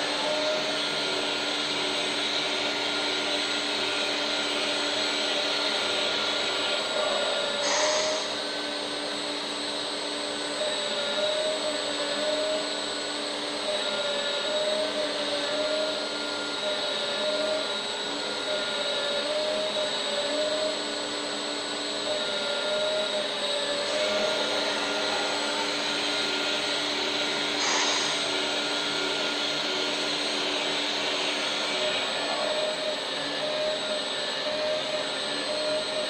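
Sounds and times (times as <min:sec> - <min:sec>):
hydraulic pump whining: 0:00.0 - 0:36.0.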